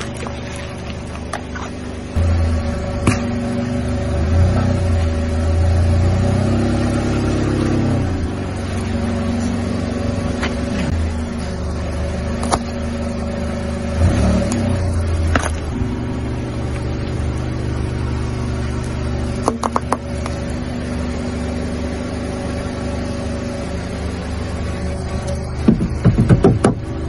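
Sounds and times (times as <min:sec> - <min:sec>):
car engine running at low speed: 0:00.0 - 0:27.0.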